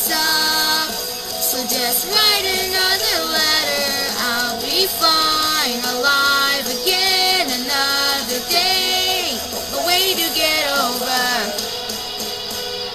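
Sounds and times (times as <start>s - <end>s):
backing music: 0.0s - 12.9s
person singing pop-rock song: 0.0s - 12.9s.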